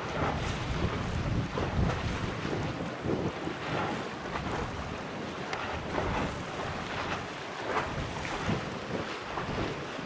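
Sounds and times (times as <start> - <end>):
wind rushing over microphone: 0.0 - 10.0.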